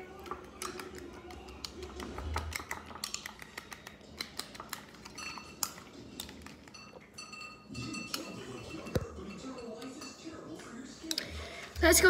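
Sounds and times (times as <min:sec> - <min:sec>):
spoon stirring in ceramic bowl: 0:00.0 - 0:11.8.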